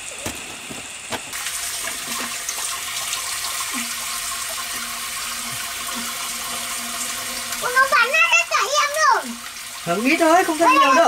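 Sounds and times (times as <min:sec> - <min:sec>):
rainwater pouring and splashing: 0:00.0 - 0:11.0.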